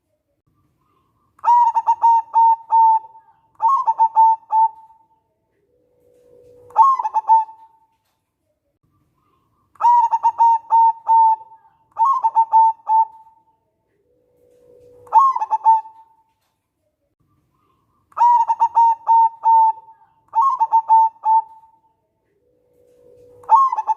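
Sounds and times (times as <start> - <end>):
dove cooing: 0.9 - 7.9, 9.3 - 16.2, 17.6 - 23.9.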